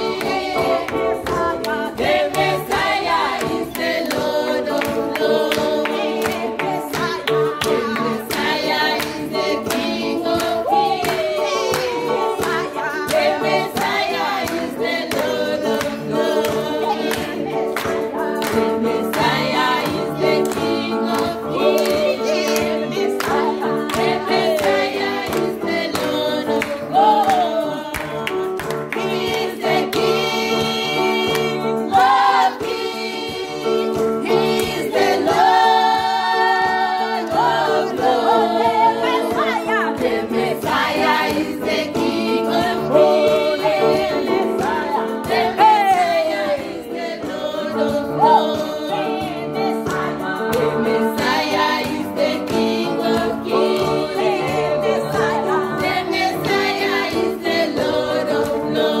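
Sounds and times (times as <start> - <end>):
voices singing gospel song: 0.0 - 59.0.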